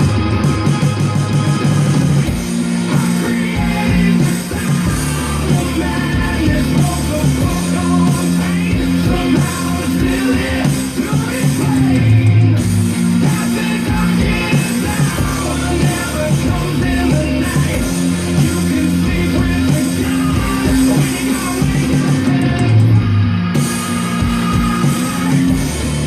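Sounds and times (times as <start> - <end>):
hard rock music: 0.0 - 26.0
person singing: 2.8 - 26.0.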